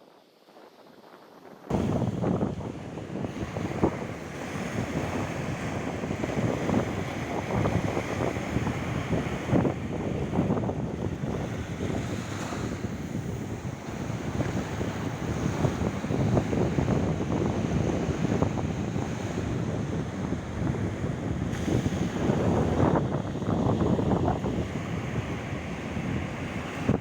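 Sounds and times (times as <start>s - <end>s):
wind buffeting microphone: 0.0s - 27.0s
sea surf washing ashore: 0.5s - 27.0s.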